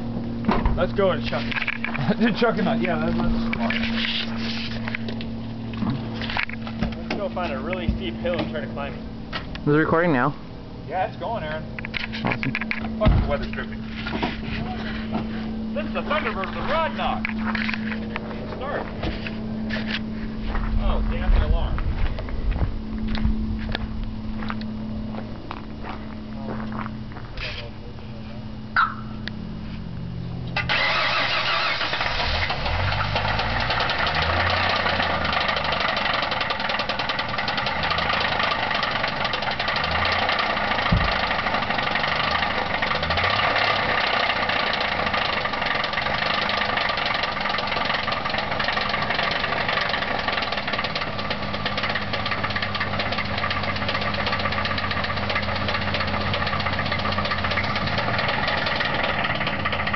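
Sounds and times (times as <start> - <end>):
engine running with rod knock: 0.0 - 9.6, 11.7 - 27.7, 30.4 - 59.9
car engine cranking and starting: 0.0 - 10.3, 11.2 - 27.8, 30.3 - 59.9.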